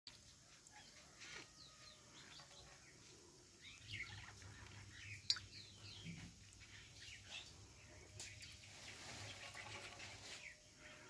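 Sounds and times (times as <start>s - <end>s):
birds chirping: 1.0s - 11.0s.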